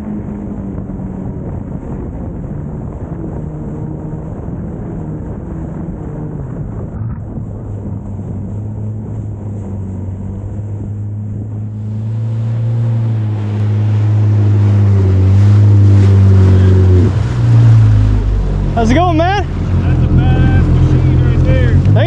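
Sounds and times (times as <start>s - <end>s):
personal watercraft engine drone: 0.0s - 22.0s.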